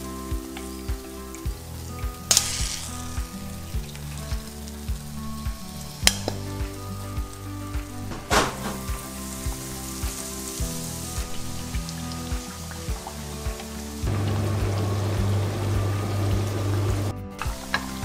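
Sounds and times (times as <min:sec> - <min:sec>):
chicken sizzling in hot oil: 0:00.0 - 0:07.4, 0:08.6 - 0:18.0.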